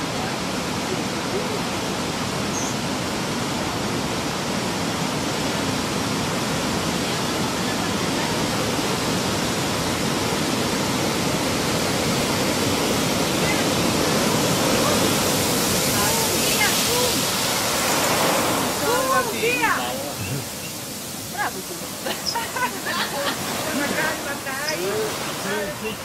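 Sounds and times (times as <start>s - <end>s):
roar of churning surf: 0.0s - 26.0s.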